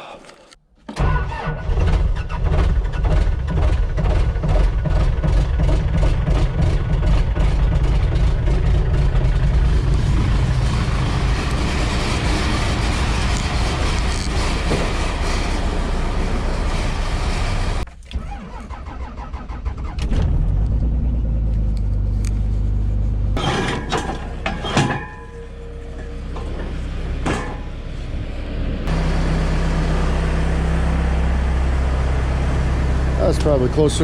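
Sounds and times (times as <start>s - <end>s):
skid steer engine running: 1.0s - 18.1s, 20.3s - 34.0s.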